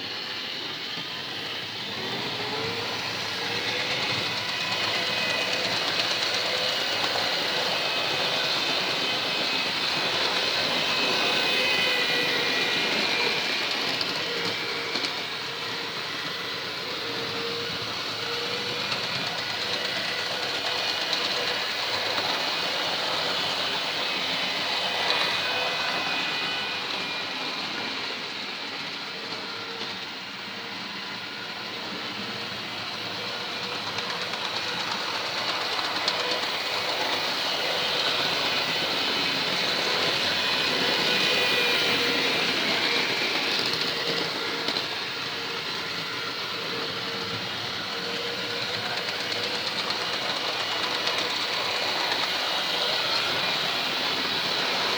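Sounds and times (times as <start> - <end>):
model train motor hum: 0.0 - 54.9
small wheels rattling on rails: 0.1 - 54.9.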